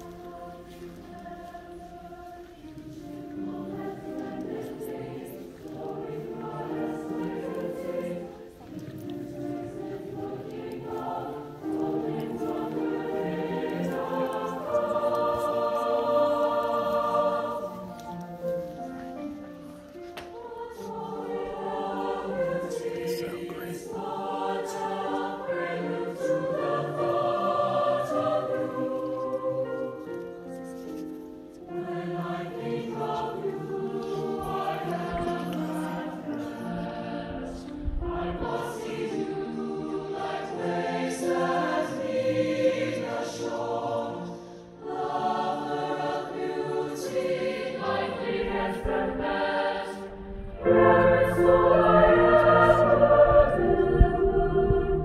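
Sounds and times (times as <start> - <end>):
large choir singing: 0.0 - 55.0.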